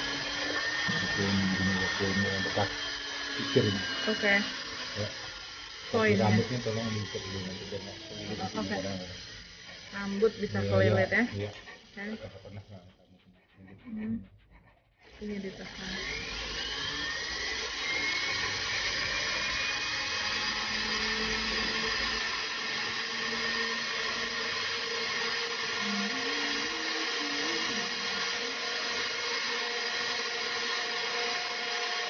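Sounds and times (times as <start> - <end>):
rotary tool whining: 0.0 - 32.0.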